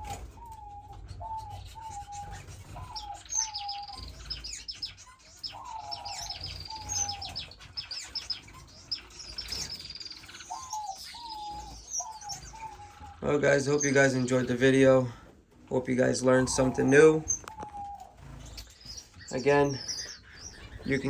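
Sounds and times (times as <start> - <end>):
finches chirping and twittering: 0.0 - 21.0.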